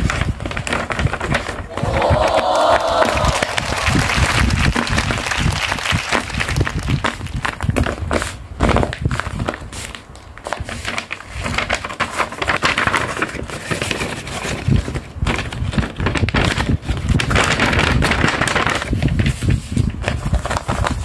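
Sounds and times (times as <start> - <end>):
paper rustling and crinkling: 0.0 - 1.7, 3.6 - 21.0.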